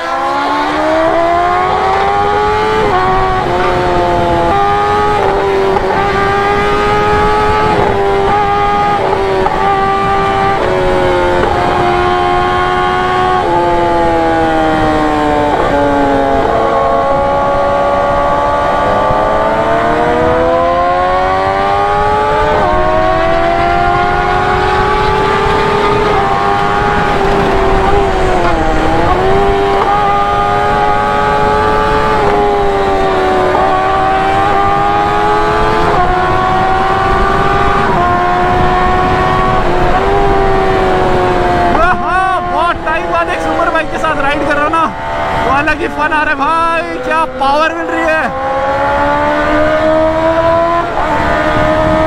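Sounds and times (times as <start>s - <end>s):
motorcycle engine revving: 0.0s - 52.0s
wind noise: 0.0s - 52.0s.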